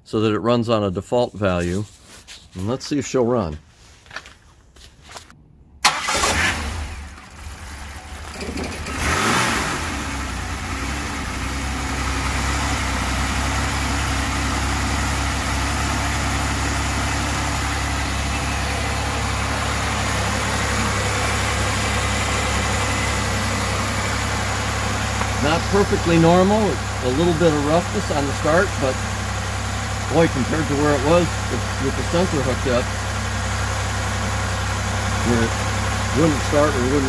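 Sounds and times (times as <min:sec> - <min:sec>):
car engine starting and idling: 0:05.8 - 0:37.0.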